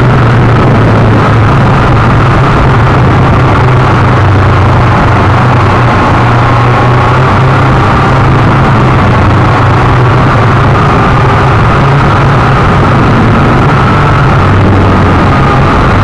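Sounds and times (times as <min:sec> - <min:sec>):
drone motors and propellers whirring: 0:00.0 - 0:16.0.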